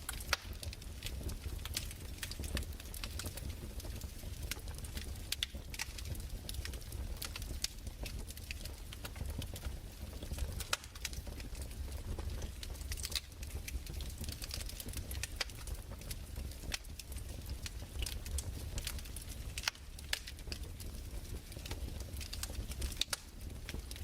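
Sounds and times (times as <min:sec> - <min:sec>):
fireplace crackling and popping: 0:00.0 - 0:24.0
low steady fire rumble: 0:00.0 - 0:24.0.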